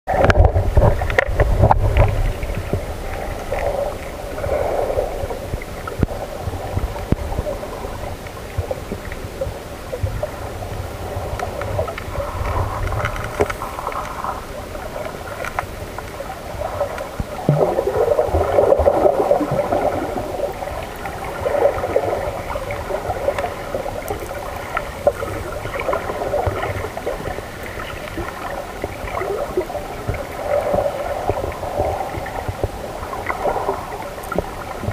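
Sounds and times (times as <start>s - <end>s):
faint steady hum: 0.1s - 34.9s
underwater sloshing and gurgling: 0.1s - 34.9s.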